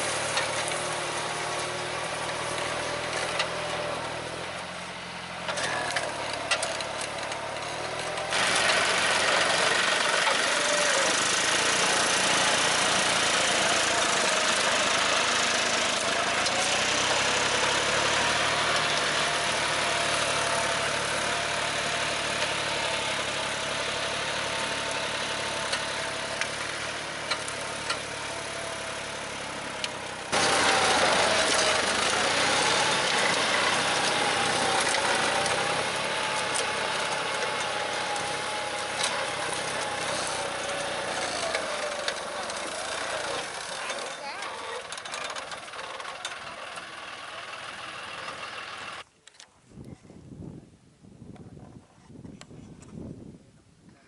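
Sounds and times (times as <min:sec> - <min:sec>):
tractor diesel engine under load: 0:00.0 - 0:49.1.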